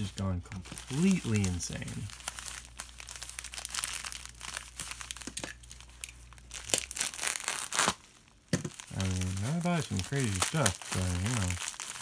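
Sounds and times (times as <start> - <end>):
plastic mailer crinkling: 0.0 - 12.0
sharp plastic crackles: 0.0 - 12.0.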